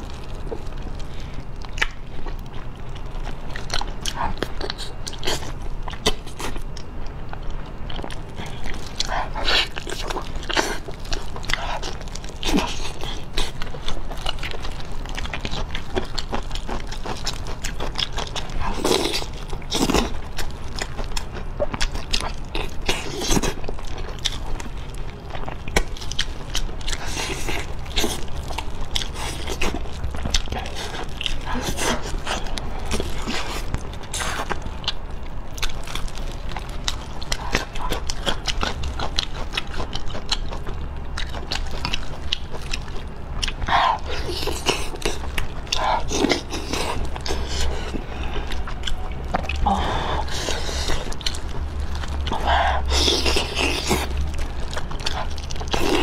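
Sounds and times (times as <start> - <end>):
person chewing and sucking food: 0.0 - 56.0.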